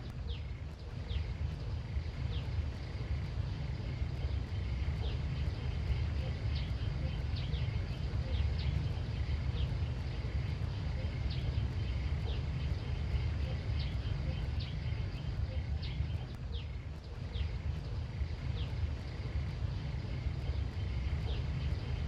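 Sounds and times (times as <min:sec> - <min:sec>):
bird chirping: 0:00.0 - 0:22.0
steady low rumble: 0:00.0 - 0:22.0.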